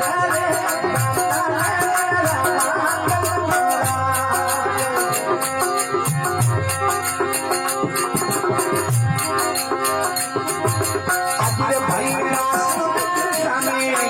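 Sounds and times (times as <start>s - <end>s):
hand drum rhythm: 0.0s - 14.0s
melodic folk instrument: 0.0s - 14.0s.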